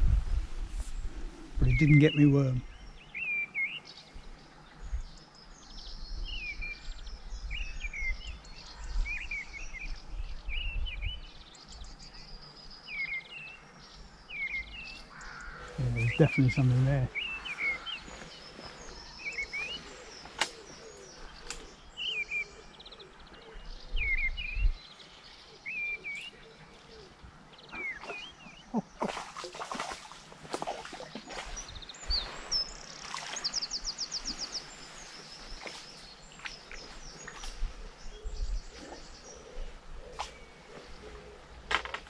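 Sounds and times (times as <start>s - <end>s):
small birds chirping and trilling: 0.3s - 42.0s.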